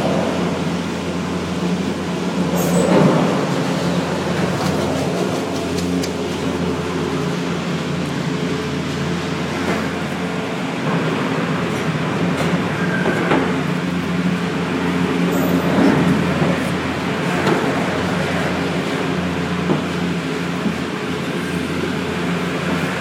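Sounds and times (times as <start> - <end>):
chairlift machinery humming: 0.0 - 23.0.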